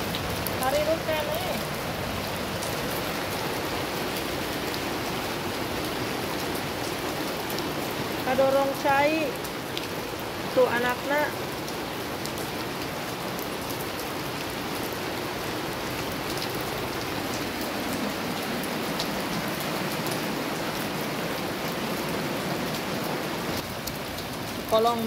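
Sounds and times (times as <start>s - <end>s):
rain splashing on water: 0.0s - 25.0s.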